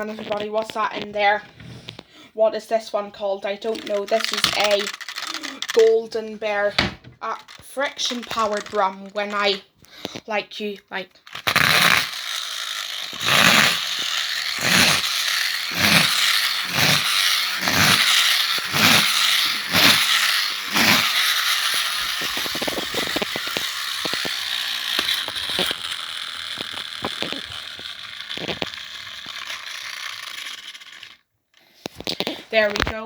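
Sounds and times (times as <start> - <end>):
toy car flywheel whirring: 0.0 - 2.0, 2.6 - 33.0
toy car flywheel rasping: 2.6 - 33.0.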